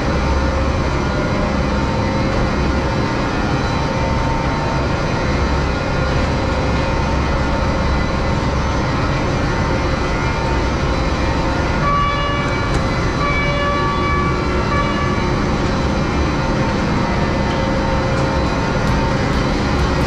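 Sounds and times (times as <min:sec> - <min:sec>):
high whine of steady tones: 0:00.0 - 0:20.0
machine running noise: 0:00.0 - 0:20.0.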